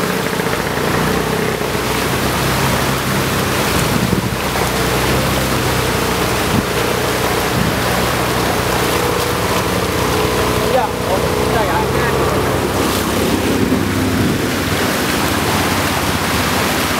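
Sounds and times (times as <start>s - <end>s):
floodwater rushing: 0.0s - 16.9s.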